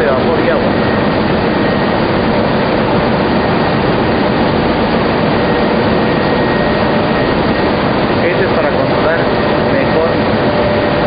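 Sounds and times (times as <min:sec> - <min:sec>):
faint high whine: 0:00.0 - 0:11.0
fans rushing air: 0:00.0 - 0:11.0
machinery hum: 0:00.0 - 0:11.0.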